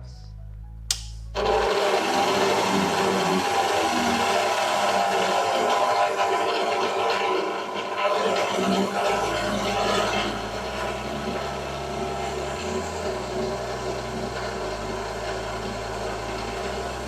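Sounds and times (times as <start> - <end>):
stand mixer beating batter: 1.4 - 17.0.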